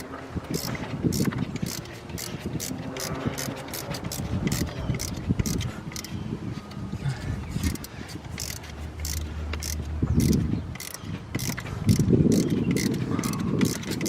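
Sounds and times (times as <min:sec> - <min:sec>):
socket ratchet clicking: 0:00.0 - 0:06.2, 0:07.6 - 0:14.0.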